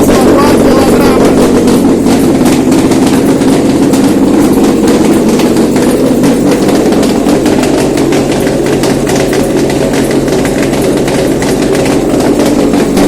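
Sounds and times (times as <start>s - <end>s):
petrol engine running: 0.0s - 13.0s.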